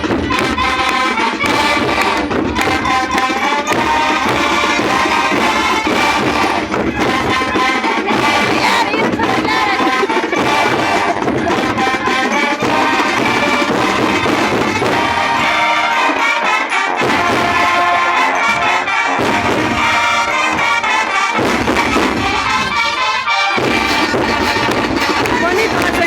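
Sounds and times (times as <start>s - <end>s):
brass band playing: 0.0s - 26.0s
drum and cymbal beats: 0.0s - 26.0s.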